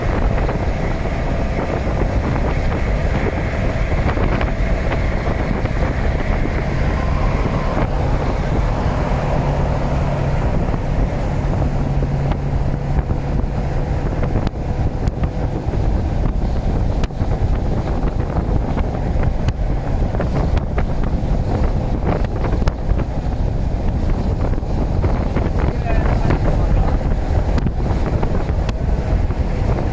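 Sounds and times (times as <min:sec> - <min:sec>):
freight train rumbling past: 0:00.0 - 0:29.9
low hum: 0:00.0 - 0:29.9
wind buffeting microphone: 0:00.0 - 0:29.9.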